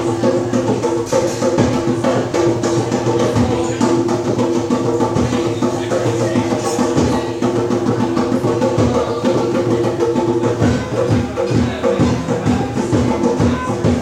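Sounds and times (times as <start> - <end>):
held chords: 0.0 - 14.0
steady percussion beat: 0.0 - 14.0.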